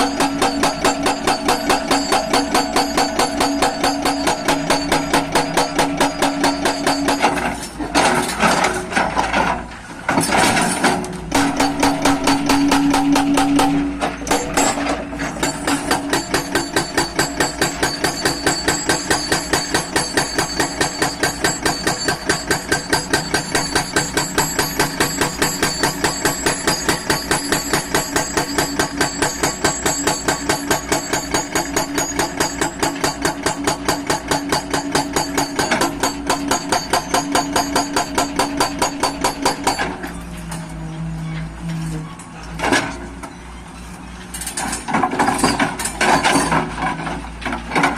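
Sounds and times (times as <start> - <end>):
hydraulic breaker hammering: 0.0 - 8.7, 10.2 - 40.0.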